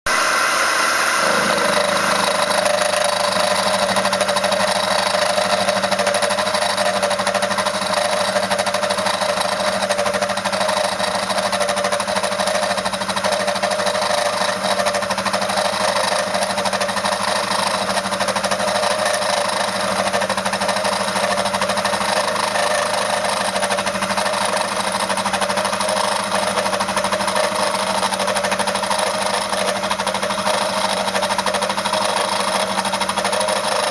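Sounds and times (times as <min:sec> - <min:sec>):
milling machine running: 0:00.1 - 0:33.9.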